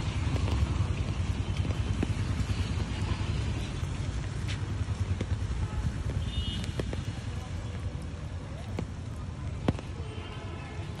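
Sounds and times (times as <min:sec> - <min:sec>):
rain falling on a pond: 0:00.0 - 0:11.0.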